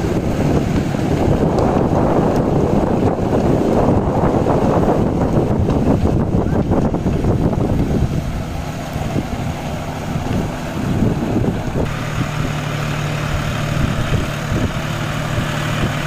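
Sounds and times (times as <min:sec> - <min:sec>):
rotavator churning wet soil: 0:00.0 - 0:16.0
tractor diesel engine running: 0:00.0 - 0:16.0
wind buffeting microphone: 0:00.0 - 0:16.0.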